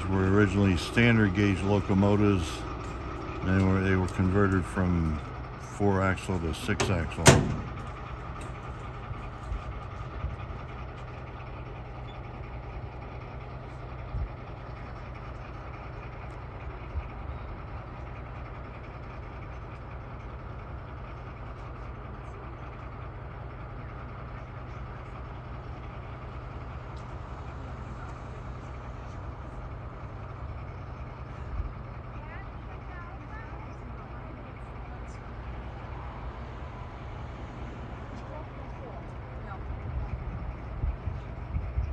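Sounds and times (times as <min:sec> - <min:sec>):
locomotive engine idling: 0:00.0 - 0:41.9.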